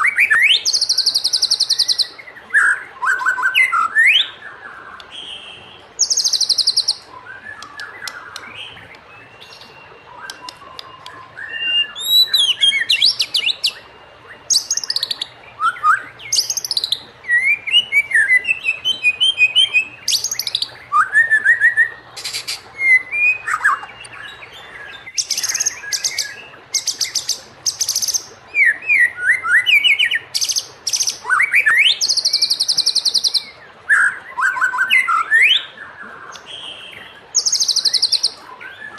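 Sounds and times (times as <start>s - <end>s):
high buzzy bird trills: 0.0s - 38.9s
songbird singing varied song: 0.0s - 38.9s.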